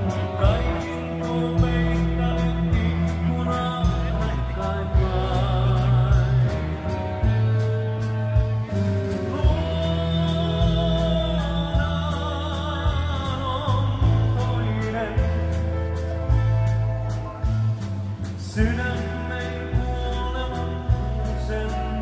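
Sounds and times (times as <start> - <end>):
bass line with steady beat: 0.0 - 22.0
electric guitar: 0.0 - 22.0
keyboard: 0.0 - 22.0
man singing with vibrato: 0.0 - 22.0.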